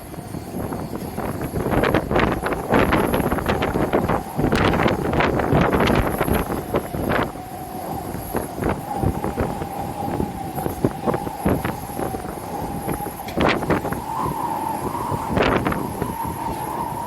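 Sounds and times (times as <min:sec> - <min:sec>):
jet engines whining: 0:00.0 - 0:17.0
wind buffeting microphone: 0:00.0 - 0:17.0.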